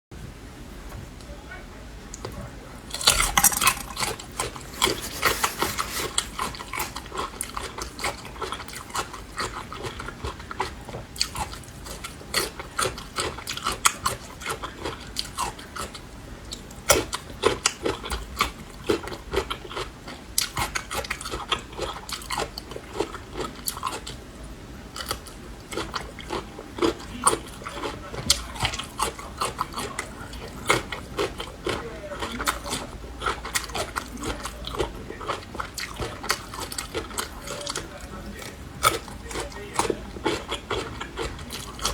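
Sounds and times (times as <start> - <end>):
crunching and chewing garlic: 2.1 - 41.9.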